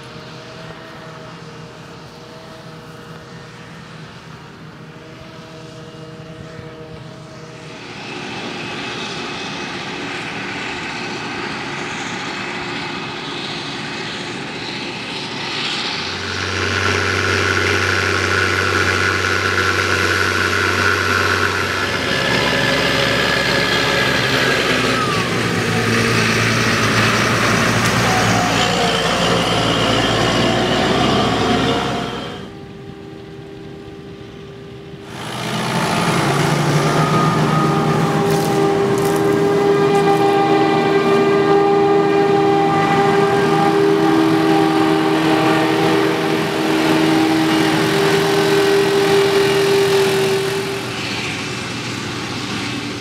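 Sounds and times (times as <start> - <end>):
diesel machinery drone: 0.0 - 53.0
tractor passing close: 0.0 - 53.0.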